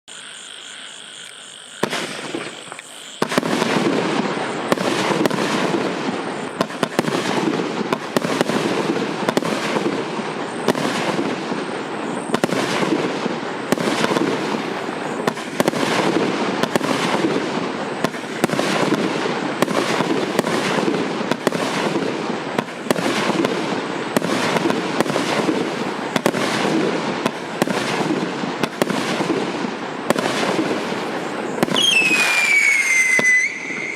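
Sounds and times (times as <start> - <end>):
firework cake launches and bursts: 1.8 - 33.9.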